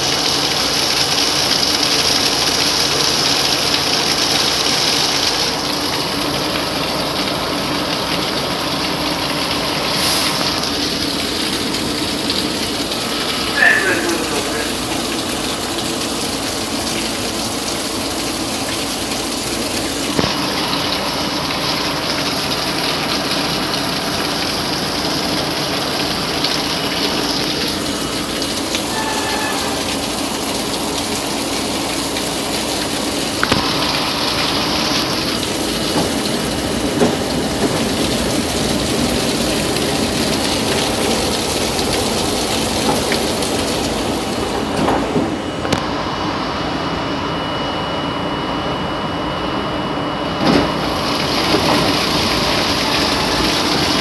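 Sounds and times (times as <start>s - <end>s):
heavy rain downpour: 0.0s - 48.5s, 50.0s - 54.0s.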